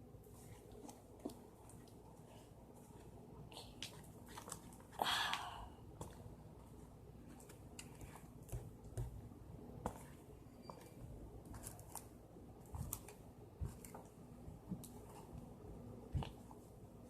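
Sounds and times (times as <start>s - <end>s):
slime squelching in a bowl: 0.3s - 16.8s.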